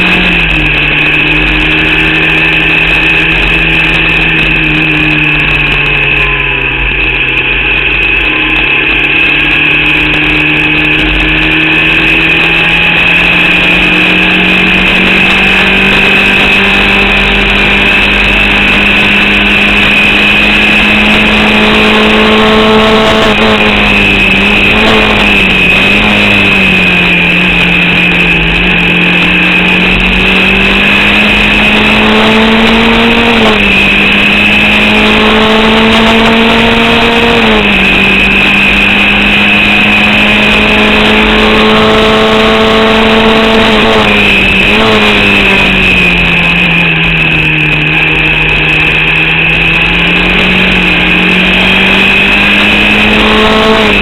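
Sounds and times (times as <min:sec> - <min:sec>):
race car engine running hard: 0:00.0 - 0:54.0
steady high whine: 0:00.0 - 0:54.0.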